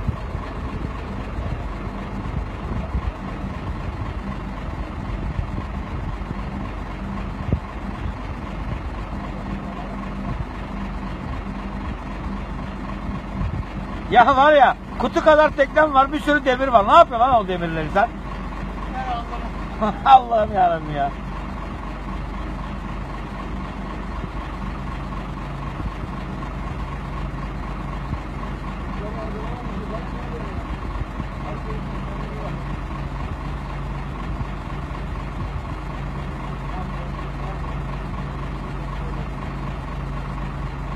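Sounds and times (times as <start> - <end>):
crane engine idling: 0.0 - 40.9.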